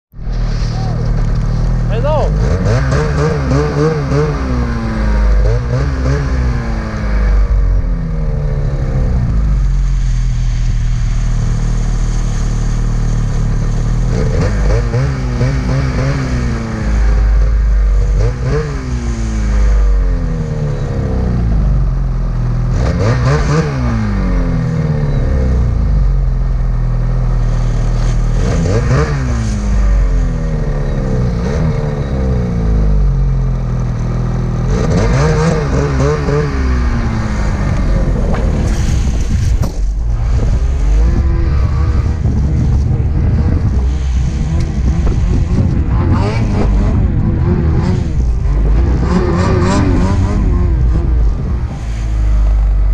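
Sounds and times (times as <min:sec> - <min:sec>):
snowmobile engine revving: 0:00.2 - 0:52.9.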